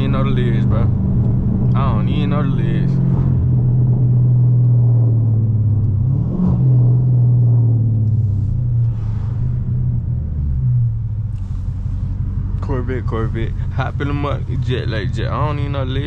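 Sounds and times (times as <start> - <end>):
car engine low drone: 0.0 - 16.0.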